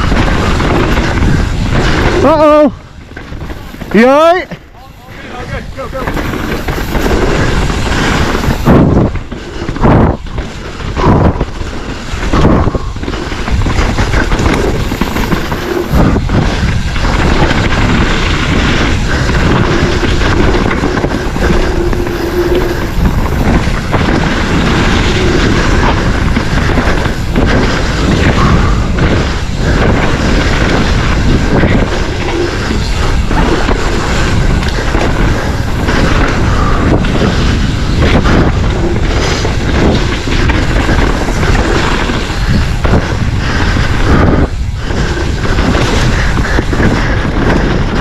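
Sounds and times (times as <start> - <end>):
bike tyres on dirt trail: 0.0 - 48.0
wind on microphone: 0.0 - 48.0.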